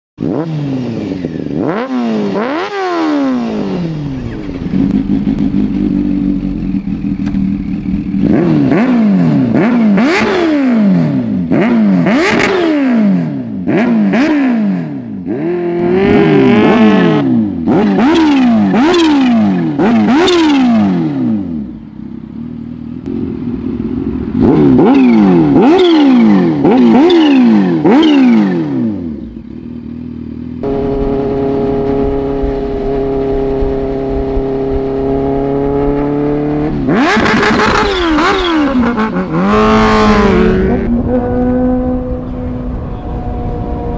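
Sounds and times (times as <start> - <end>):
motorcycle engine revving: 0.2 - 43.9.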